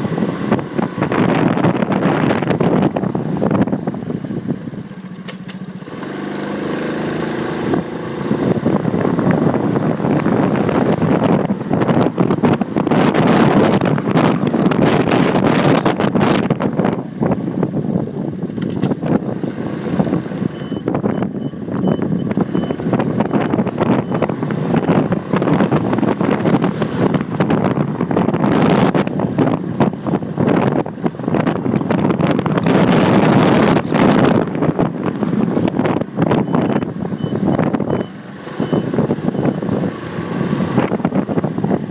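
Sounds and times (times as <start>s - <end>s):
wind rushing over microphone: 0.0s - 5.0s, 5.9s - 41.9s
motorcycle engine pulling away: 0.0s - 41.9s
street traffic: 0.0s - 41.9s.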